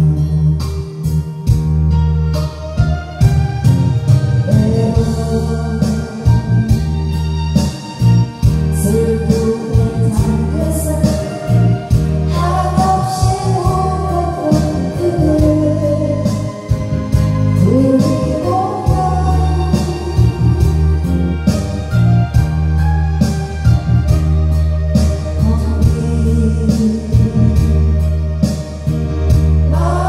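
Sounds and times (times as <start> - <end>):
woman singing into microphone: 0.0 - 1.6, 4.4 - 22.0, 24.5 - 30.0
backing track with heavy bass: 0.0 - 30.0.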